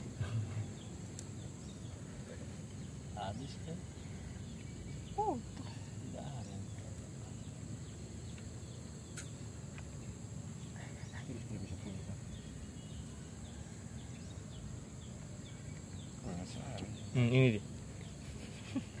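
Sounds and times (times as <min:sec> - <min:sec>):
high insect drone: 0:00.0 - 0:19.0
faint chirps: 0:00.1 - 0:19.0.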